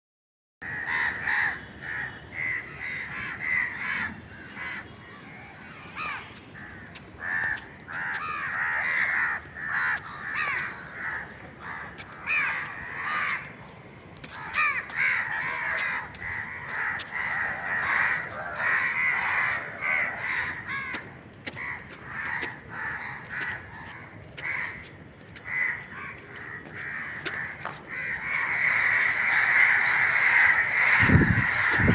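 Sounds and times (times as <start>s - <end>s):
crows cawing: 0.6s - 31.9s.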